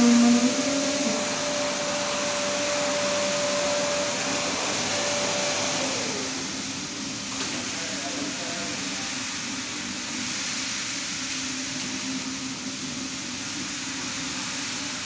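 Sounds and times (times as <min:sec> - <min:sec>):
carpet cleaning machine whirring: 0:00.0 - 0:15.0.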